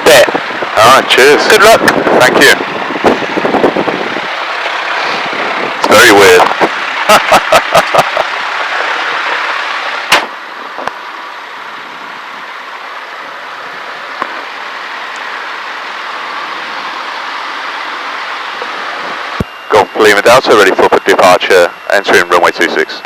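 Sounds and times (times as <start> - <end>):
aircraft engine idling: 0.0 - 23.0.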